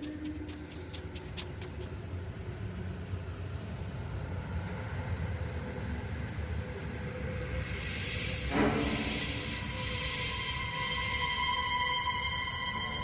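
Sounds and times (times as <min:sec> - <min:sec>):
low rumbling suspense drone: 0:00.0 - 0:13.0.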